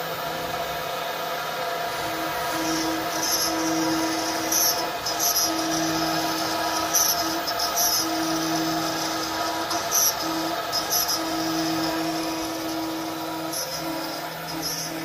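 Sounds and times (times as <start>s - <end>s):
industrial machinery humming: 0.0s - 15.0s.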